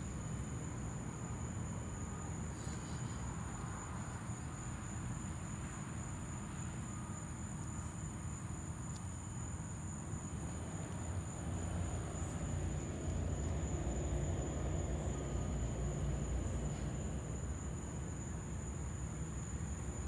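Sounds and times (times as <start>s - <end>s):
low rumbling background noise: 0.0s - 20.0s
night insects trilling: 0.0s - 20.0s.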